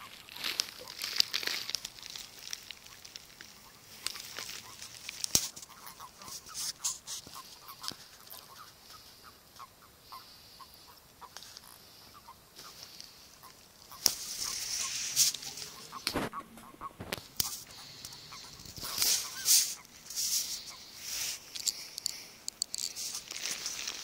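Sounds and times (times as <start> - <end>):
frogs croaking: 0.0 - 24.0.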